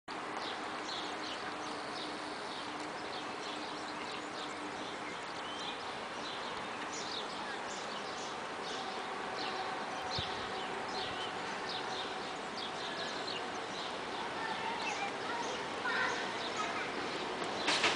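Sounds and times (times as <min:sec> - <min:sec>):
rail yard hiss and hum: 0:00.1 - 0:17.9
small birds chirping: 0:00.1 - 0:17.9.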